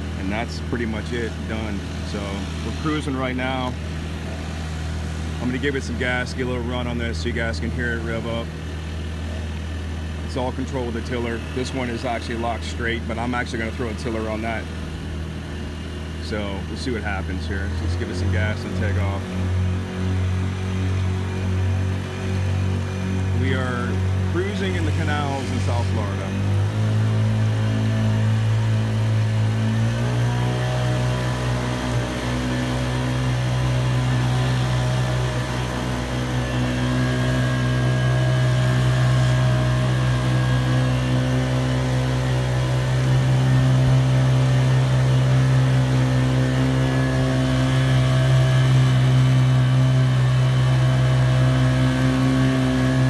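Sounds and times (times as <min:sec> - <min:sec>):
outboard engine running: 0:00.0 - 0:53.0.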